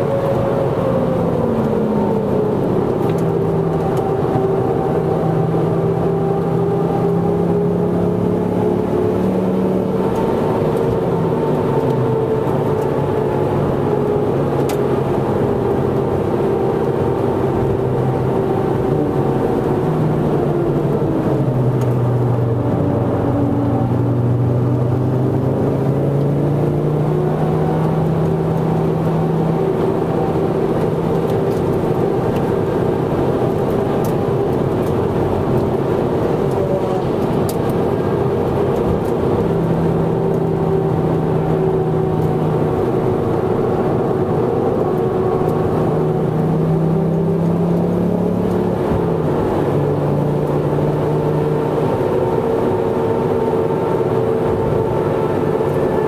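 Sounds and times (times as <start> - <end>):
car engine from inside cabin: 0.0 - 56.0
road and wind noise: 0.0 - 56.0.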